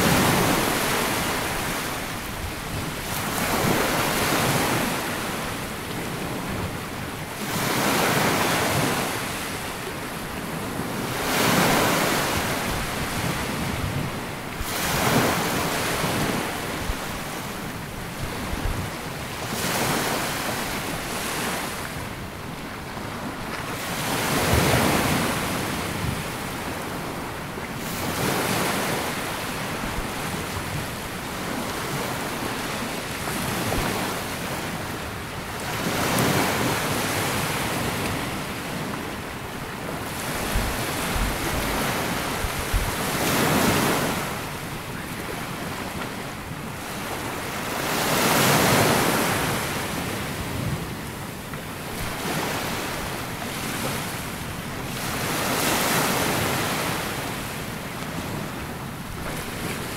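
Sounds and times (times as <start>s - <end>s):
sea waves washing onto sand: 0.0s - 59.9s.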